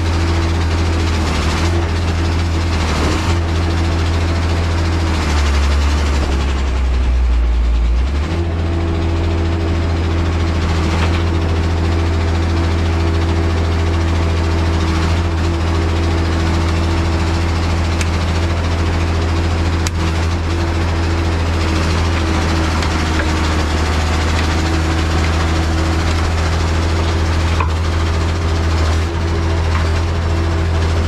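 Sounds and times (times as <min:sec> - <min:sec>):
large diesel engine droning: 0:00.0 - 0:31.0.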